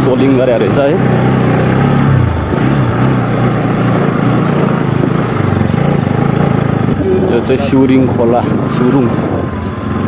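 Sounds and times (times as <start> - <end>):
off-road motorcycle engine: 0.0 - 10.0.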